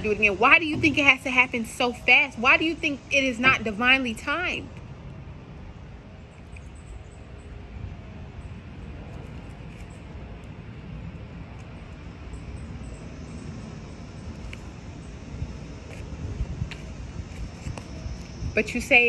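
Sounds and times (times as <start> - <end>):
low rumbling background hum: 0.0 - 19.0.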